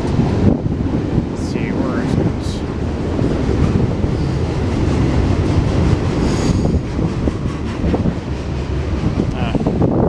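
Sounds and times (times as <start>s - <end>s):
freight train rumbling and rattling: 0.0s - 10.0s.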